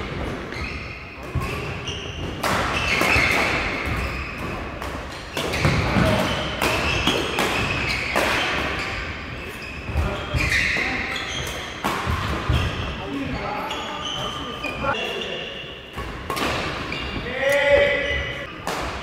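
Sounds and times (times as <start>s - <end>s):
shoes squeaking on court floor: 0.0s - 18.6s.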